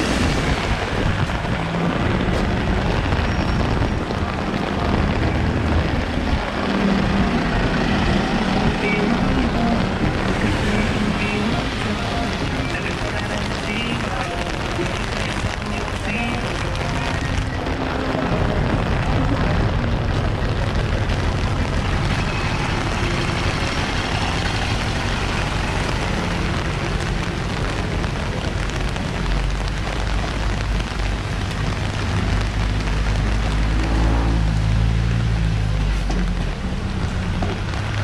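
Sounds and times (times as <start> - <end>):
heavy vehicle engine rumble: 0.0 - 38.0
rain hissing on wet street: 0.0 - 38.0
traffic engines running: 0.0 - 38.0.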